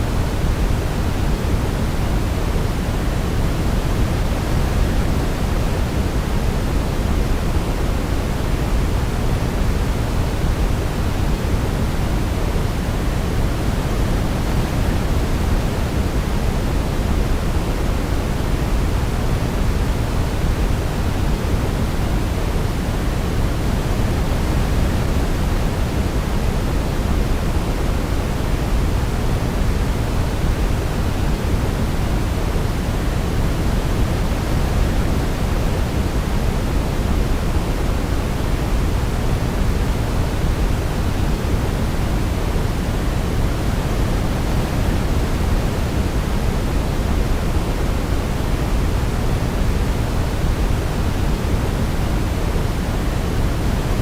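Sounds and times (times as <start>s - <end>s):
steady pink noise: 0.0s - 54.0s.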